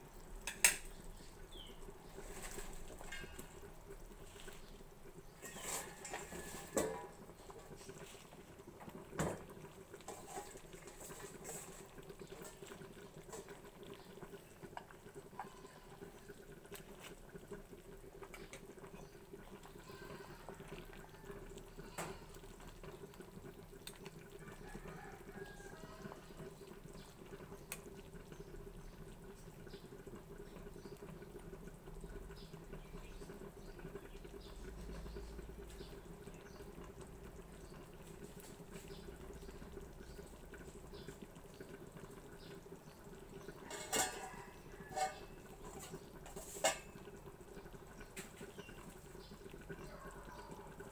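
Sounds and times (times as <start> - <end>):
soup bubbling in a pot: 0.0 - 50.9.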